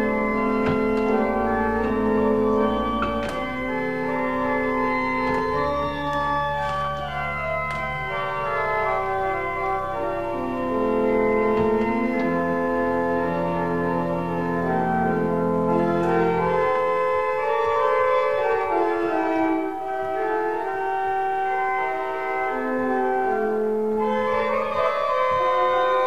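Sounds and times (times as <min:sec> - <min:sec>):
church organ chords: 0:00.0 - 0:26.0
low organ bass notes: 0:00.0 - 0:26.0.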